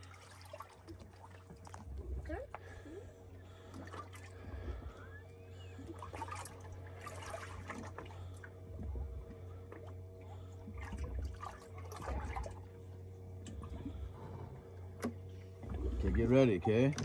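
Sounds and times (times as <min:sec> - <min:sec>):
steady low hum: 0:00.0 - 0:17.0
waves slapping boat hull: 0:00.0 - 0:17.0.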